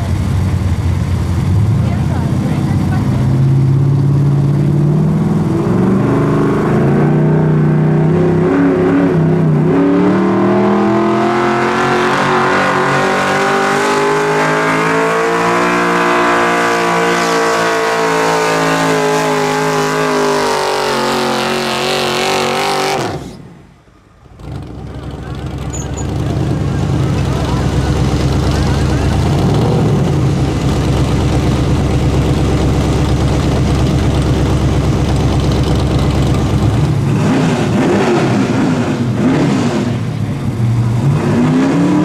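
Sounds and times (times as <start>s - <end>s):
truck engine revving under load: 0.0s - 42.0s.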